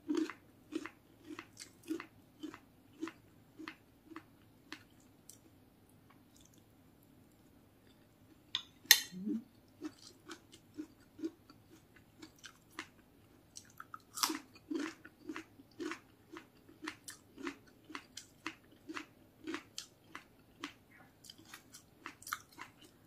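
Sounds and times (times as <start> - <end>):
person chewing food: 0.0 - 6.7, 7.3 - 23.0.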